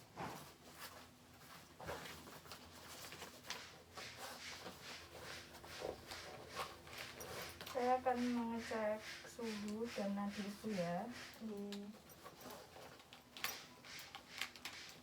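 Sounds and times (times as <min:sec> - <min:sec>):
objects being handled: 0:00.0 - 0:15.0.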